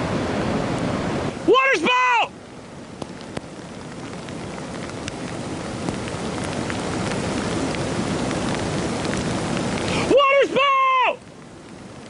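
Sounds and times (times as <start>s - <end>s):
heavy rain falling: 0.0s - 12.0s
raindrops ticking: 2.3s - 12.0s.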